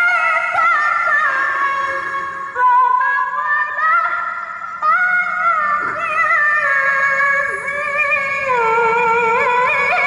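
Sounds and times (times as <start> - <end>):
woman reciting melodically: 0.0 - 10.0.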